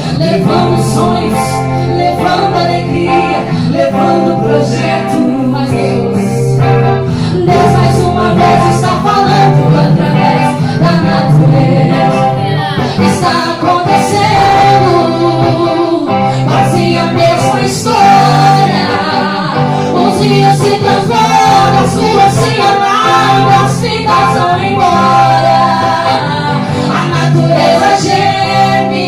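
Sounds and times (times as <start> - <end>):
gospel choir singing: 0.0 - 29.0.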